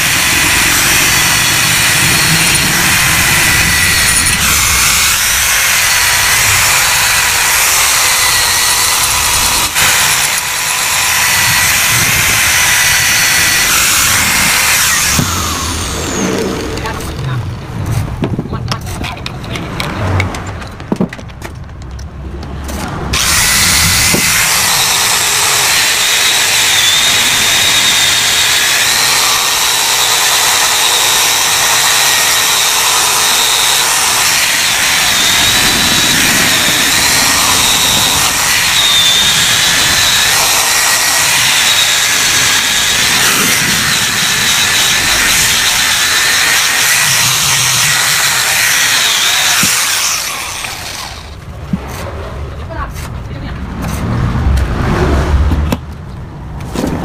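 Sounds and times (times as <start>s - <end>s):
power tool whining on metal: 0.0s - 18.1s, 23.1s - 51.5s.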